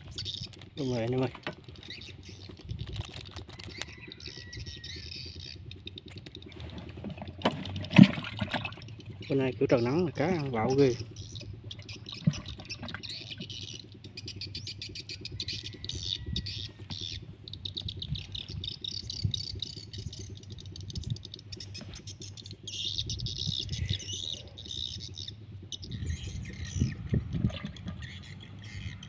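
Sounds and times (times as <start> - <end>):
birds chirping: 0.0 - 29.0
small engine running: 0.0 - 29.0.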